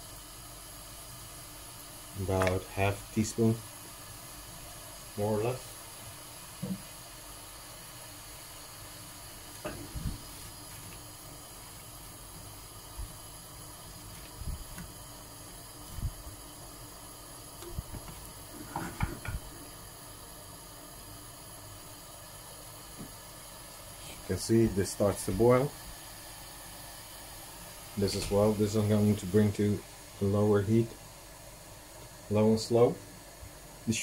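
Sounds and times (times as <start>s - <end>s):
saucepan of fruit heating hiss: 0.0s - 34.0s.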